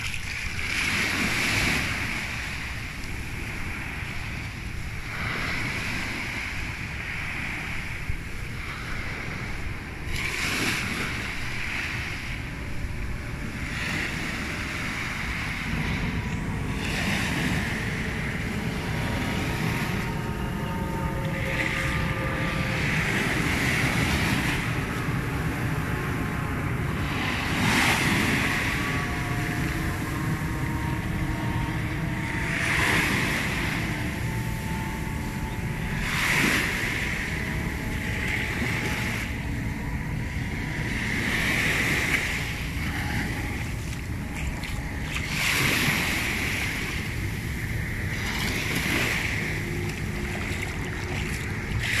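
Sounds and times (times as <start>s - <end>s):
steady low rumble: 0.0s - 52.0s
waves breaking on sand: 0.0s - 52.0s.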